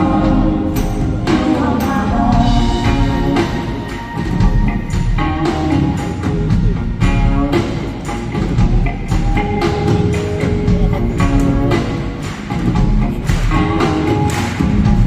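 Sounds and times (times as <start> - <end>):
live rock band playing: 0.0 - 15.0
steady drum beat: 0.0 - 15.0.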